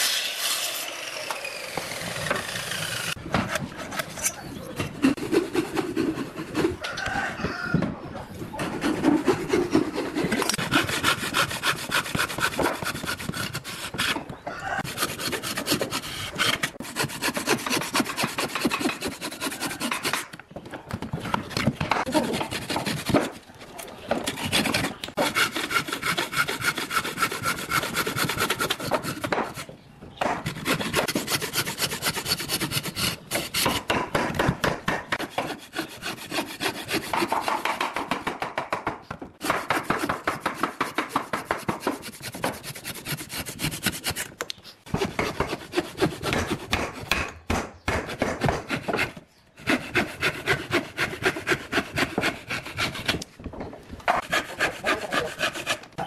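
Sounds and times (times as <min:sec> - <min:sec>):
hand tool rasping wood: 0:00.0 - 0:07.3, 0:08.5 - 0:20.4, 0:21.2 - 0:23.5, 0:24.1 - 0:47.3, 0:47.9 - 0:53.3, 0:54.1 - 0:56.0.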